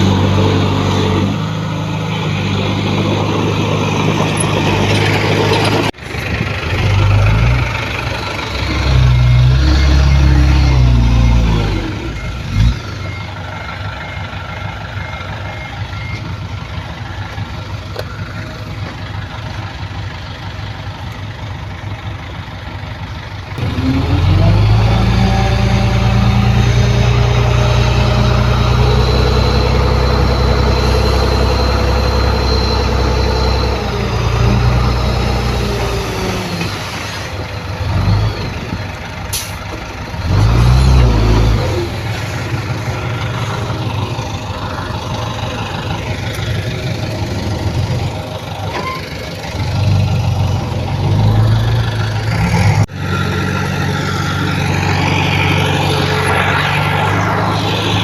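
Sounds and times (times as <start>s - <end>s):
heavy diesel engines: 0.0s - 58.0s.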